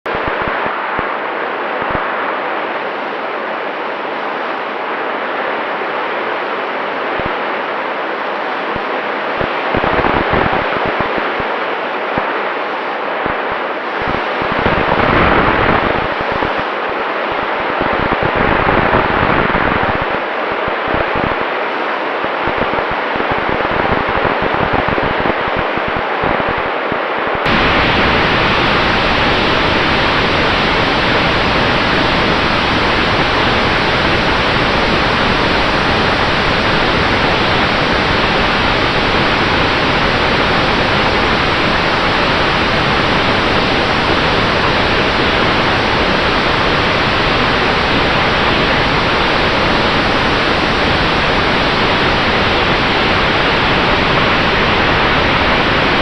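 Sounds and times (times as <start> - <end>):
rushing wind noise: 4.0 - 56.0.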